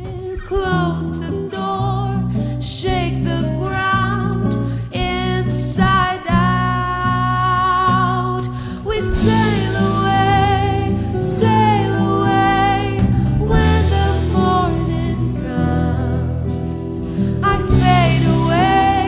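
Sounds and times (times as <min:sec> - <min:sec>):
song with singer over bass: 0:00.0 - 0:19.0.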